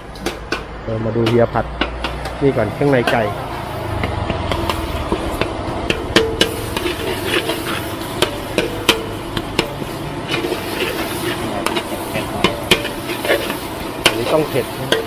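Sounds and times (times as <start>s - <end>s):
frying hiss: 0.0s - 15.0s
metal spatula scraping wok: 0.1s - 15.0s.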